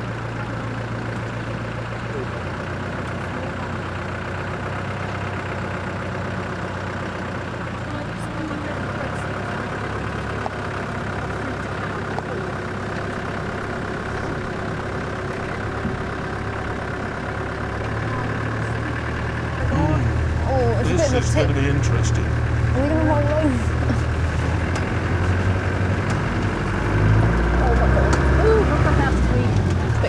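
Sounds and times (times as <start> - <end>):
vehicle engine at low revs: 0.0 - 30.0.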